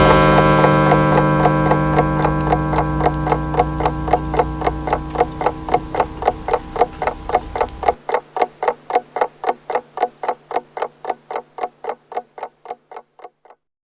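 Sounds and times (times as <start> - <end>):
low steady hum: 0.0 - 13.3
pendulum clock ticking: 0.0 - 13.7.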